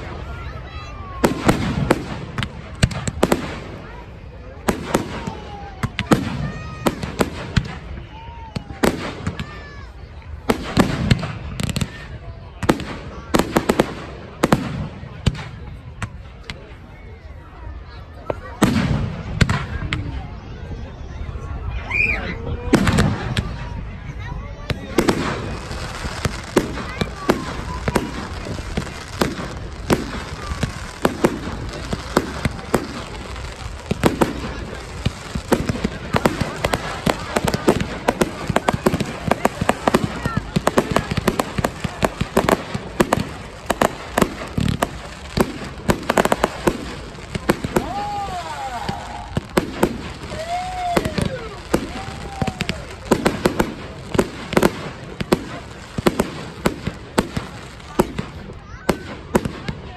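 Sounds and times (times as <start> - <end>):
fireworks bangs and cracks: 0.0 - 21.4, 22.7 - 59.9.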